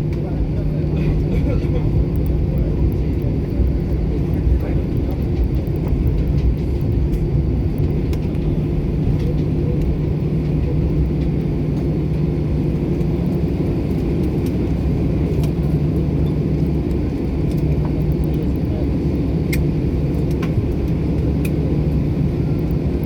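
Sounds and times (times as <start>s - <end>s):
airliner cabin engine hum: 0.0s - 23.0s.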